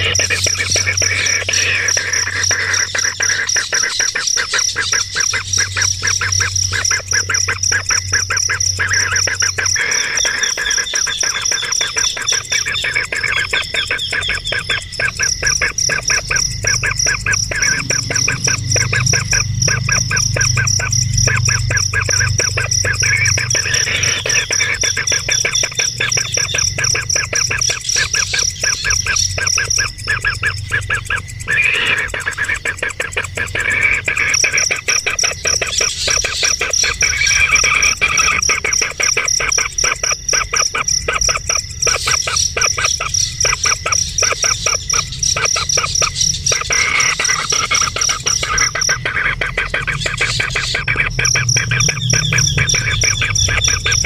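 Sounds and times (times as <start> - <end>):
steady high-pitched tone: 0.0 - 40.7, 41.3 - 54.0
birds chirping: 0.0 - 54.0.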